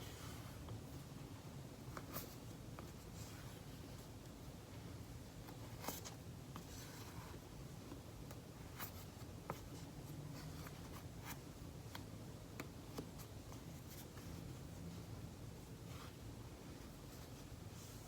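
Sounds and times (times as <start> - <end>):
faint air conditioner hum: 0.0 - 18.0.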